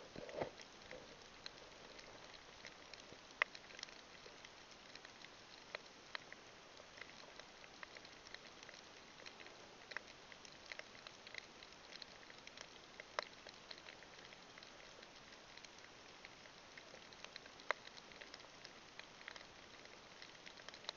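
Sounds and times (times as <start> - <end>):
underwater reef crackling: 0.0 - 20.9.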